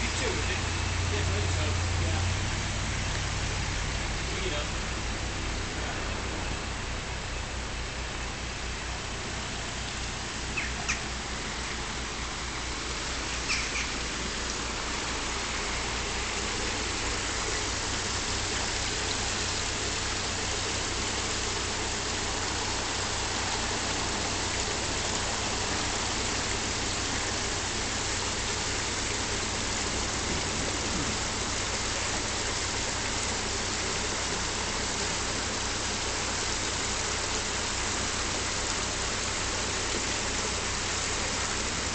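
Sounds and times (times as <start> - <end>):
diesel engine ticking over: 0.0 - 41.9
water churning: 0.0 - 41.9.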